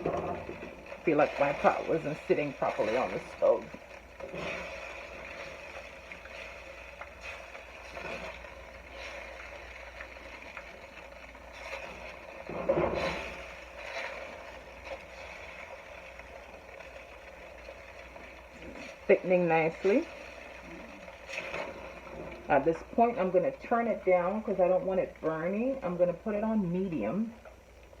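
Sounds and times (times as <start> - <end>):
sauce bubbling in a pot: 0.0 - 28.0.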